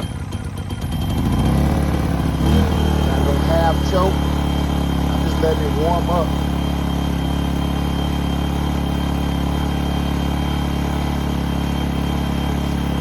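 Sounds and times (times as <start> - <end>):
generator engine idling: 0.0 - 13.0.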